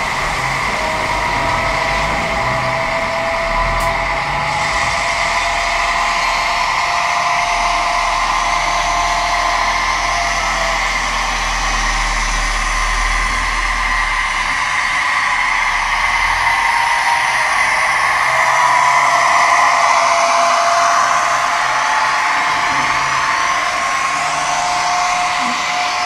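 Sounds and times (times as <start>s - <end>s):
model train motor whirring: 0.0s - 26.0s.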